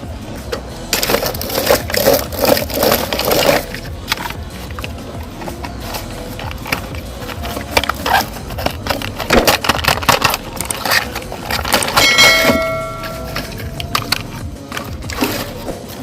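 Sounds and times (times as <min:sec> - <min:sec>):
plastic toys clattering: 0:00.9 - 0:16.0.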